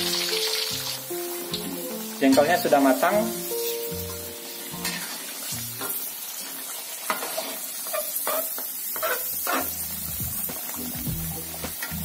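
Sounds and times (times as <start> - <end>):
food sizzling in hot oil: 0.0 - 12.0
spatula scraping wok: 2.3 - 12.0.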